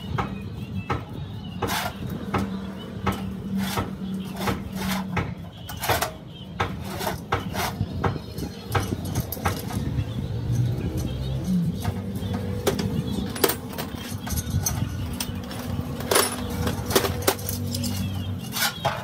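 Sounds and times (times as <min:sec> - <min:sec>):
knocks and metallic clinks: 0:00.0 - 0:19.0.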